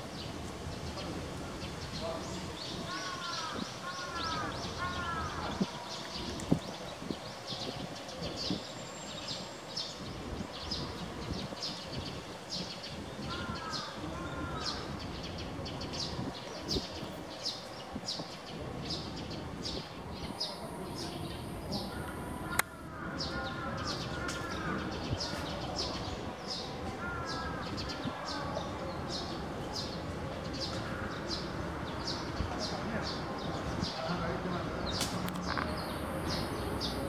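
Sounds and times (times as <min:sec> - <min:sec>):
steady outdoor hum: 0:00.0 - 0:37.0.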